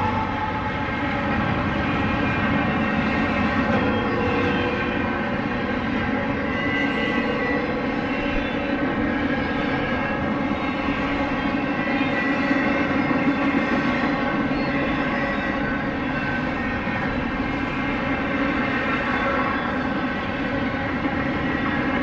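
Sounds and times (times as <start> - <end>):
diesel locomotive engines droning: 0.0 - 22.0
train rumble: 0.0 - 22.0.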